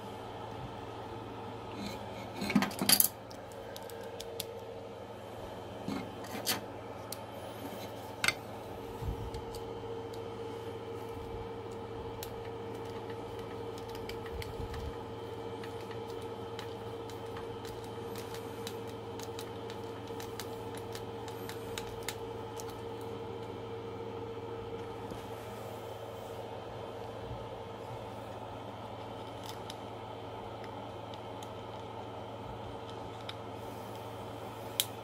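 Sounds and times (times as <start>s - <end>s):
printer humming: 0.0s - 35.0s.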